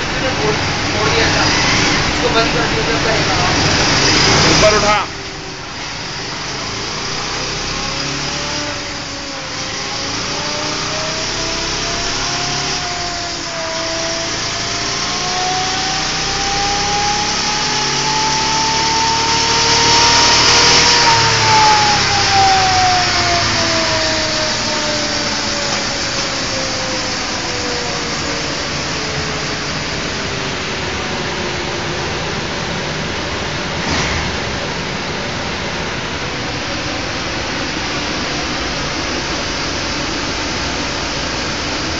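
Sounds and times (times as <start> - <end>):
steady rushing noise: 0.0 - 13.9, 19.4 - 41.9
motorcycle engine revving under load: 0.0 - 31.2, 31.8 - 41.9.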